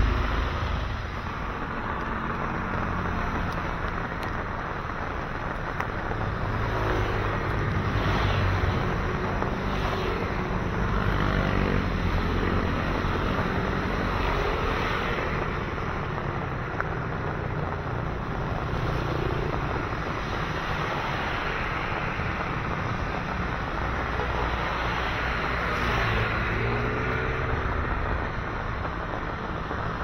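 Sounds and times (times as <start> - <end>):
low traffic rumble: 0.0 - 30.0
tyres hissing on wet road: 0.0 - 30.0.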